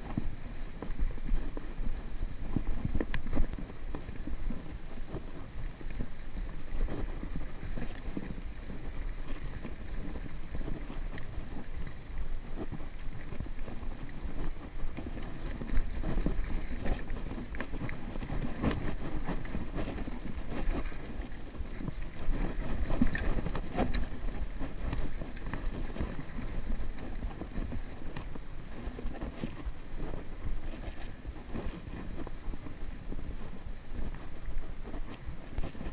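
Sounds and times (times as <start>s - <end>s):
bike knocking and rattling over rocks: 0.0s - 35.9s
wind on microphone: 0.0s - 35.9s.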